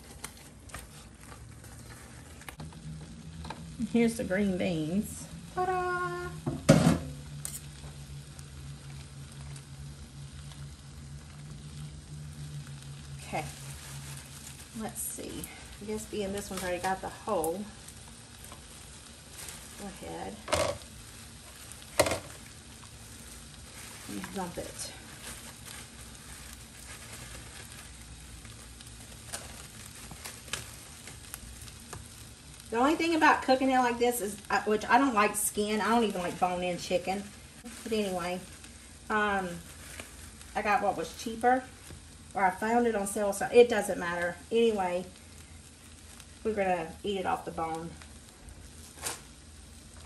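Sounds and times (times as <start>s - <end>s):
low pulsing hum: 0.0s - 48.8s
pot bubbling: 0.0s - 50.0s.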